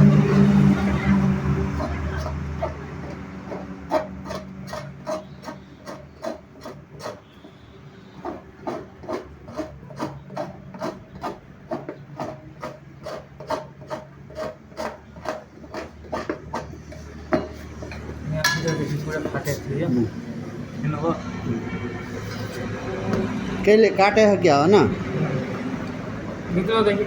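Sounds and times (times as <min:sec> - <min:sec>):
hand rasp scraping: 0:00.0 - 0:20.2, 0:21.6 - 0:23.6.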